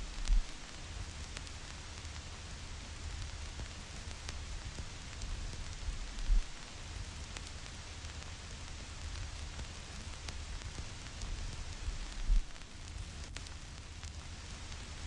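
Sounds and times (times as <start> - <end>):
vinyl crackles and pops: 0.0 - 15.0.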